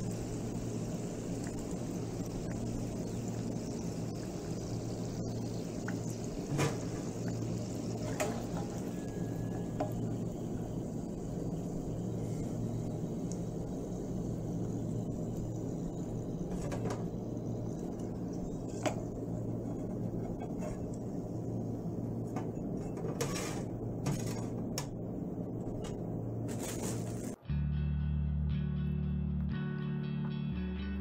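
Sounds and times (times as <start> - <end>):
oil bubbling while deep-frying: 0.0 - 27.4.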